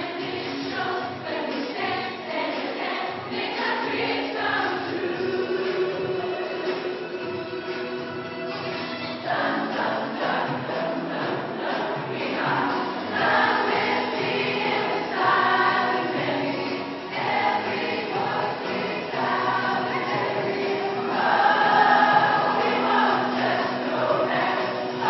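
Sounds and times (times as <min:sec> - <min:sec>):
girls choir singing: 0:00.0 - 0:07.0, 0:09.2 - 0:25.0.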